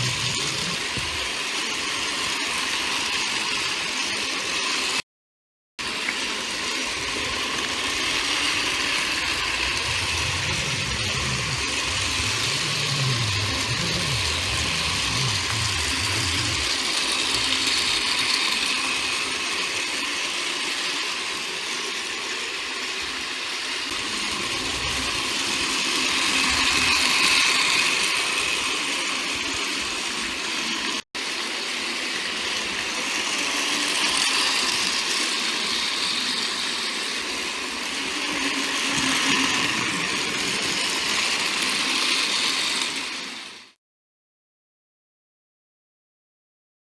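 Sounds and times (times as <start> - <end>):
toy train whirring on track: 0.0 - 5.0, 5.8 - 43.8.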